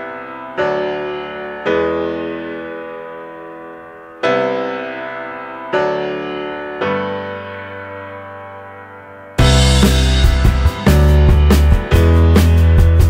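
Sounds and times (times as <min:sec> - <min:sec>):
sustained keyboard chords: 0:00.0 - 0:13.0.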